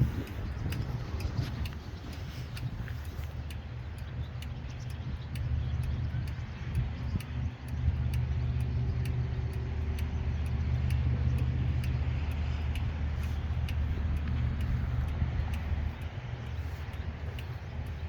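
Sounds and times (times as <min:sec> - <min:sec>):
boat engine drone: 0:00.0 - 0:18.0
faint regular ticking: 0:00.0 - 0:18.0.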